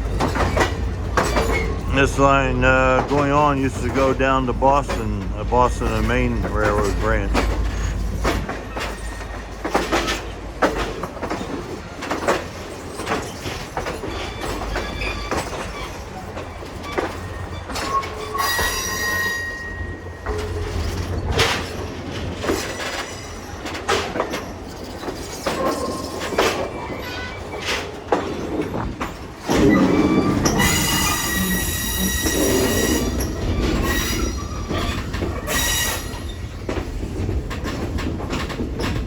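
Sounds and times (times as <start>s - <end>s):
wheel flanges squealing: 0.0s - 11.5s, 12.1s - 37.8s
train wheels rumbling: 0.0s - 39.0s
wheels clacking over rail joints: 0.0s - 39.0s.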